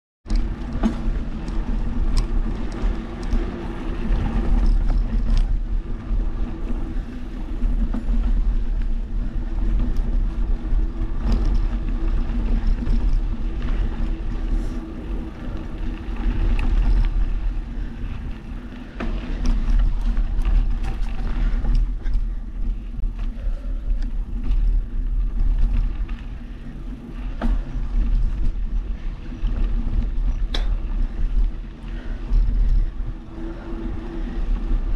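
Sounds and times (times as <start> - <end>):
tyres and wind rumble: 0.2 - 34.9
bike knocks and rattles: 0.3 - 34.9.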